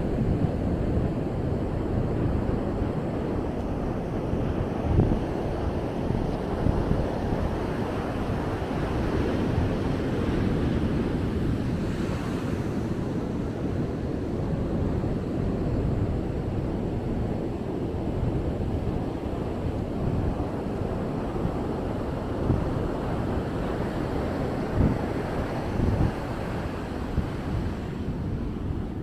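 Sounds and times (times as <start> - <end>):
ocean surf washing on beach: 0.0 - 29.0
wind buffeting microphone: 0.0 - 29.0.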